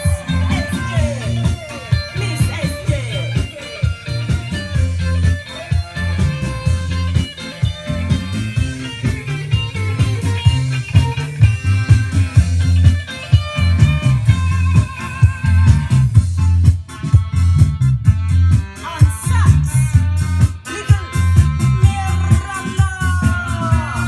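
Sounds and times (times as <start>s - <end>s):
bass line: 0.0s - 24.0s
drum beat: 0.0s - 24.0s
electric guitar: 0.0s - 24.0s.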